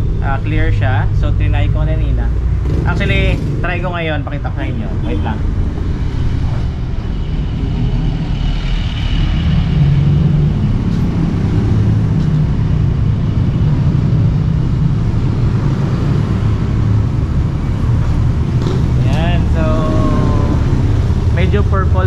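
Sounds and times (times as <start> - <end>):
traffic engine noise: 0.0 - 22.0.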